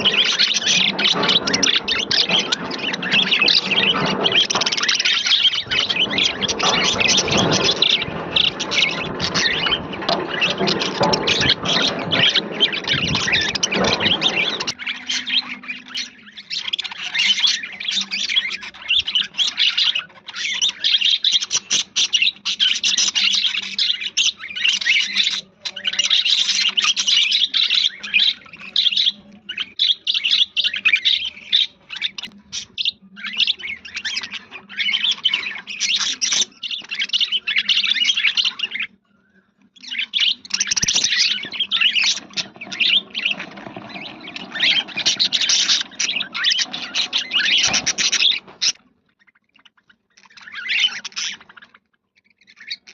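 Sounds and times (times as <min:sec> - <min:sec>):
budgerigars chattering and chirping: 0:00.0 - 0:52.9.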